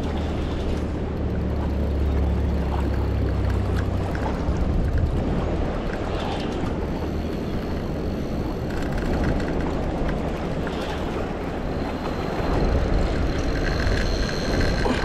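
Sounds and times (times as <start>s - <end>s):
wind rumbling on microphone: 0.0s - 15.0s
fishing reel whine: 0.1s - 4.5s, 6.2s - 15.0s.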